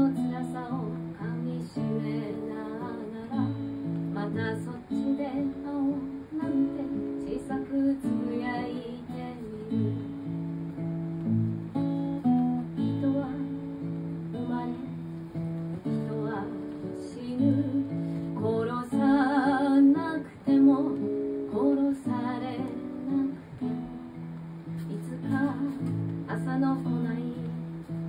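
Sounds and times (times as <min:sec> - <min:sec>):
strummed acoustic guitar: 0:00.0 - 0:28.0
woman singing folk song: 0:00.0 - 0:28.0.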